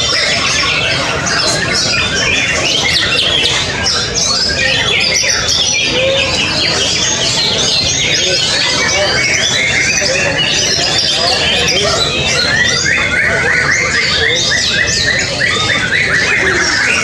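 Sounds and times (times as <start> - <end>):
birds whistling and trilling: 0.0 - 17.0.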